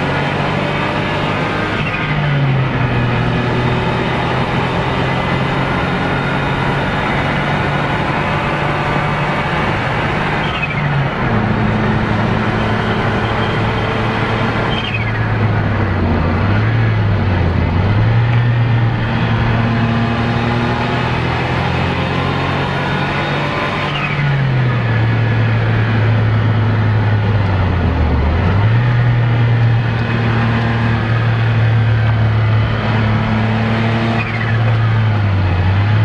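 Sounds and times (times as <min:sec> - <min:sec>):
car engine from inside cabin: 0:00.0 - 0:36.0
road and wind noise: 0:00.0 - 0:36.0.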